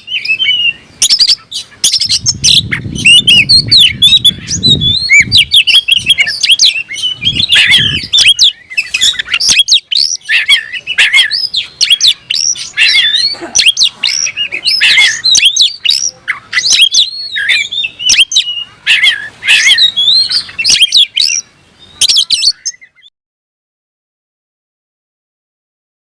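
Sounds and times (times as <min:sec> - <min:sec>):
songbird singing rapid varied song: 0:00.0 - 0:23.1.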